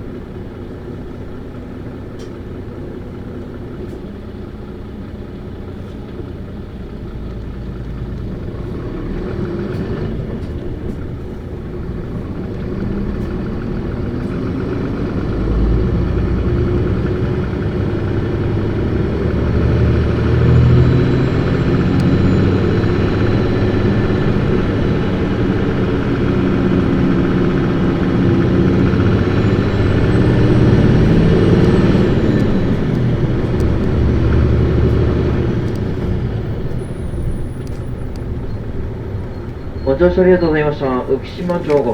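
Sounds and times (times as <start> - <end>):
bus diesel engine accelerating: 0.0 - 41.9.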